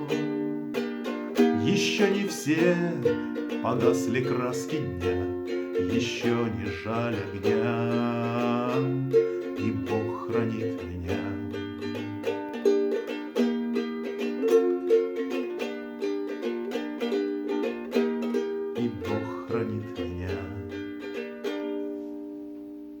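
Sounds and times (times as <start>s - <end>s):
plucked string instrument: 0.0s - 23.0s.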